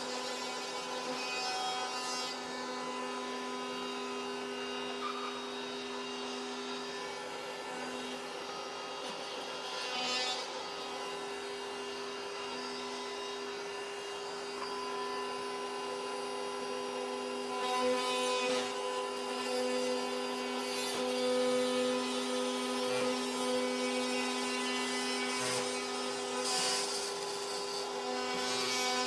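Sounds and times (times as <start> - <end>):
power tool cutting drywall: 0.0 - 29.0.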